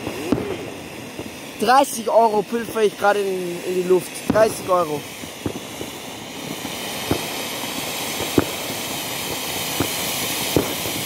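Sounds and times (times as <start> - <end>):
firework fountain hissing: 0.0 - 11.0
sharp pops: 0.0 - 11.0.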